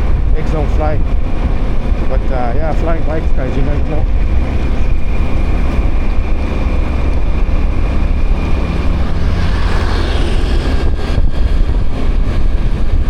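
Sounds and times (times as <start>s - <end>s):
motorbike engine rumble: 0.0s - 13.0s
wind buffeting microphone: 0.0s - 13.0s.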